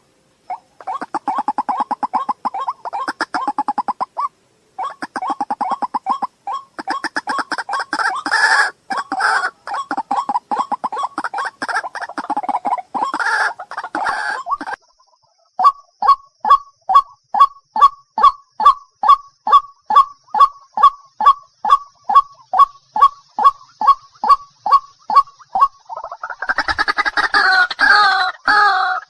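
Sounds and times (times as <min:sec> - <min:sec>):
waterhen clucking: 0:00.0 - 0:29.0
waterhen sharp calls: 0:00.5 - 0:14.8, 0:15.4 - 0:29.0.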